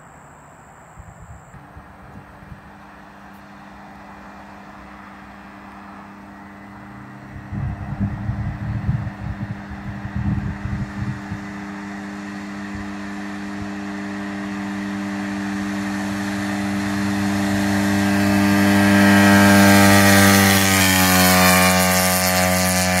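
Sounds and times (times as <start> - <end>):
go kart engine approaching: 0.0 - 23.0.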